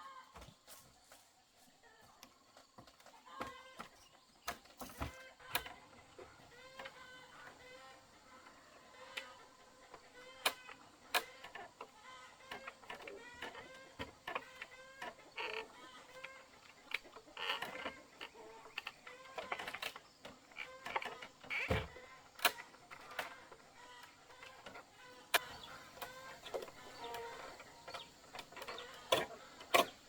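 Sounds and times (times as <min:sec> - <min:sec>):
chickens clucking: 0:01.0 - 0:30.0.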